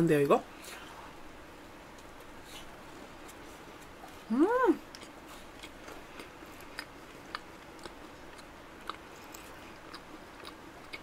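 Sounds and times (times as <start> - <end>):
close chewing with mouth clicks: 1.9 - 11.0.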